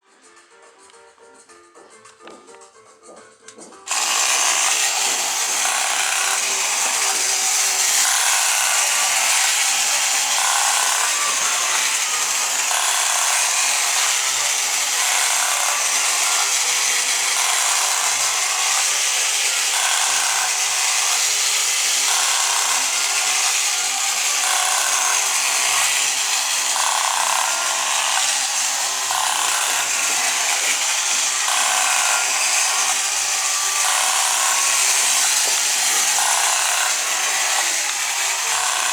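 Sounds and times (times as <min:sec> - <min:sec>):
toy motor rasping buzz: 0:03.9 - 0:38.9.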